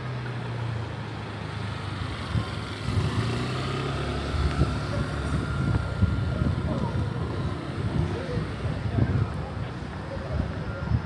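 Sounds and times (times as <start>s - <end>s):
urban background noise: 0.0s - 11.0s.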